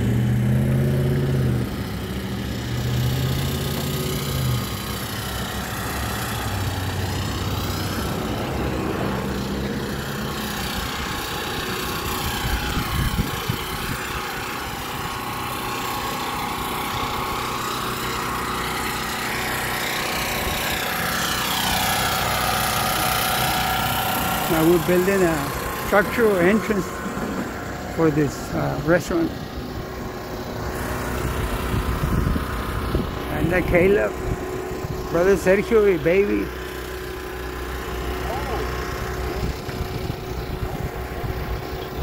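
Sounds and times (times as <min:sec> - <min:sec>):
generator engine humming: 0:00.0 - 0:42.0.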